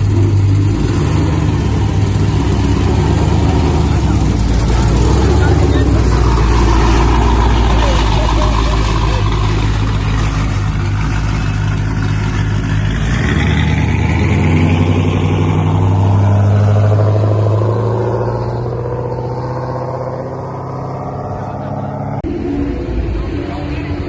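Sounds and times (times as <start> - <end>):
loud car engine running: 0.0 - 24.0.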